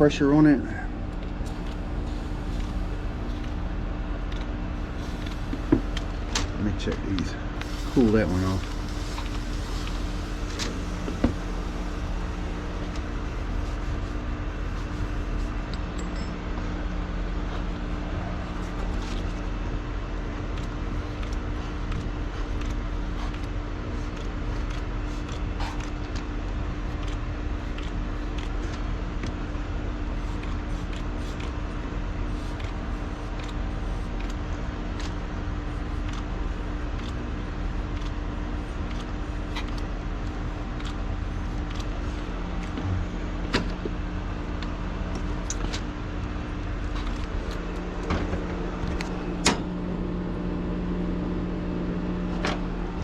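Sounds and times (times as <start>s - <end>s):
motor humming: 0.7s - 53.0s.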